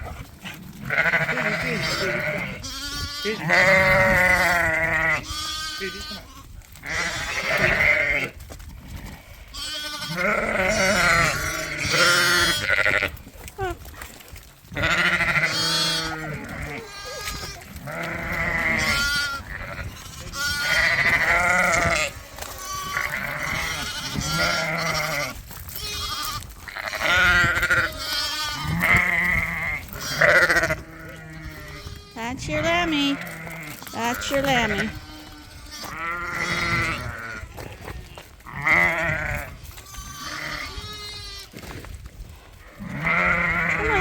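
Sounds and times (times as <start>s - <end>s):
sheep bleating: 0.8s - 8.4s, 9.5s - 13.2s, 14.7s - 41.5s, 42.6s - 44.0s.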